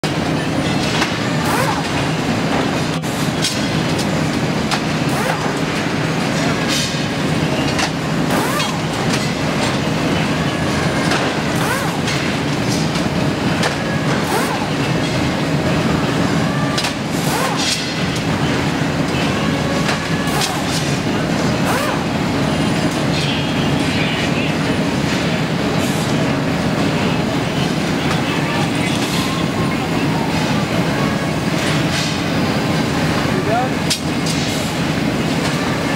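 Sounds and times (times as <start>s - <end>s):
machinery hum: 0.0s - 35.9s.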